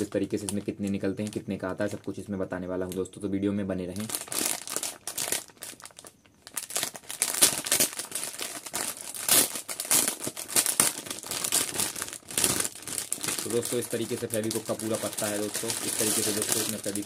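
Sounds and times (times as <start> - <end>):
plastic wrapping crinkling: 0.0 - 3.2, 3.9 - 17.0.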